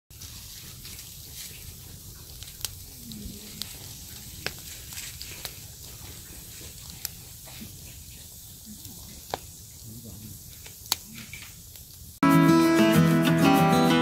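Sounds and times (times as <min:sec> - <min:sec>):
campfire hissing and crackling: 0:00.1 - 0:13.9.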